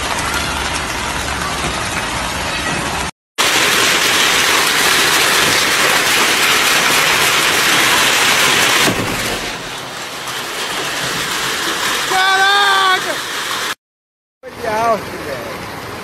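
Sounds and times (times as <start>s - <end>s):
heavy rain and hail: 0.0s - 13.8s.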